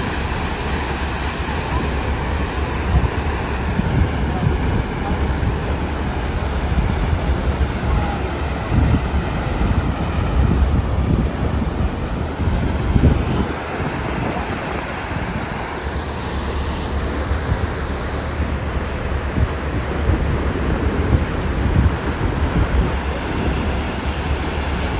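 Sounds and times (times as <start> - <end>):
boat low rumble: 0.0 - 24.9
rushing churning water: 0.0 - 24.9
wind buffeting microphone: 0.0 - 24.9.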